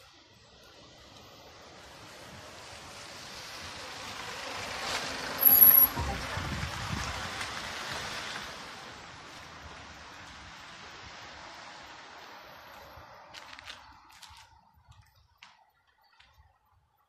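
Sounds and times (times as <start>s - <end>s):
van driving past: 0.0s - 14.6s.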